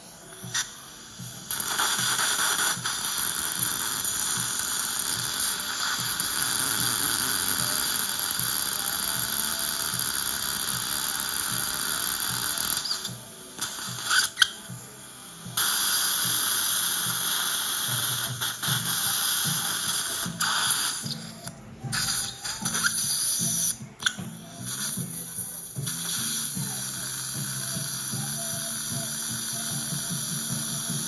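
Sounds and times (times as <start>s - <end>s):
dental suction hissing: 0.0s - 14.6s, 15.6s - 31.0s
dental handpiece drilling with water spray: 0.2s - 14.6s, 15.6s - 31.0s.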